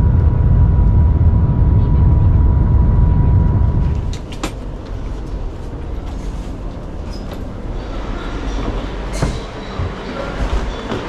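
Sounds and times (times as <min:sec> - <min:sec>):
train rumble inside cabin: 0:00.0 - 0:11.0.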